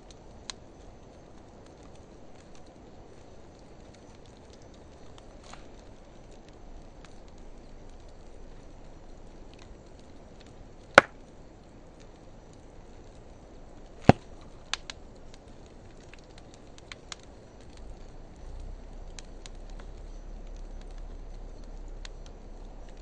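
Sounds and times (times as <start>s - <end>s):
low fire hiss: 0.0s - 23.0s
wood fire crackling: 0.0s - 23.0s
sharp pops of burning wood: 0.1s - 23.0s.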